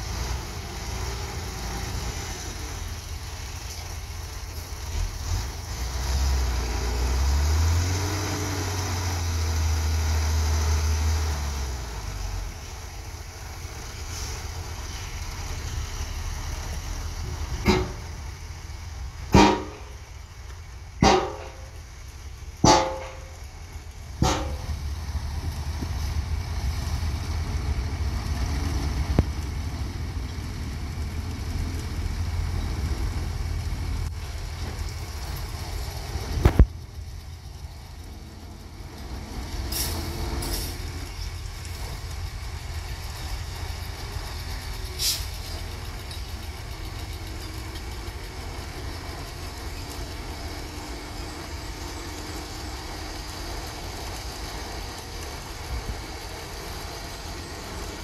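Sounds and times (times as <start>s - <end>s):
diesel truck engines rumbling: 0.0s - 58.0s.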